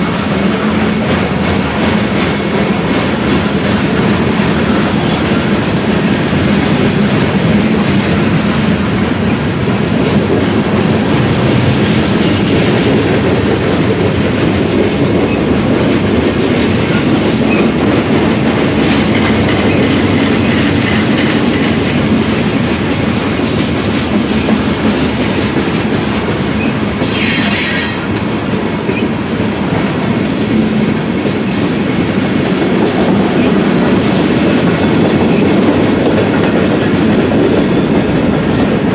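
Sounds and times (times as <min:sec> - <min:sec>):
freight train rumble: 0:00.0 - 0:38.9
wheels clacking over rail joints: 0:00.0 - 0:38.9.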